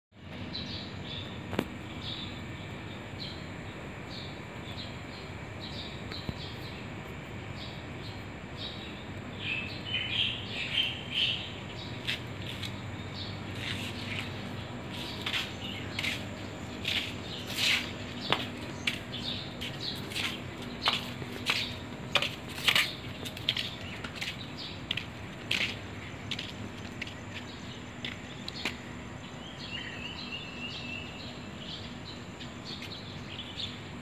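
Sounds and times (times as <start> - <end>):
low background hum: 0.2 - 34.0
small birds chirping: 0.3 - 34.0.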